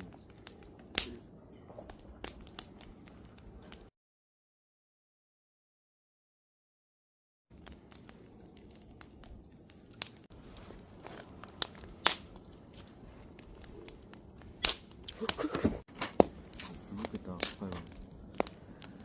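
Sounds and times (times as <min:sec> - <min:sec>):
campfire crackling: 0:00.0 - 0:03.9, 0:07.5 - 0:19.0
sharp fire pops: 0:00.0 - 0:03.9, 0:07.5 - 0:19.0.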